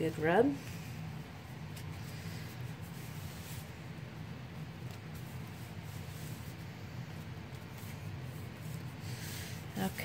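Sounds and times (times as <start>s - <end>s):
steady low hum: 0.0s - 10.0s
hands rubbing paper: 0.6s - 10.0s.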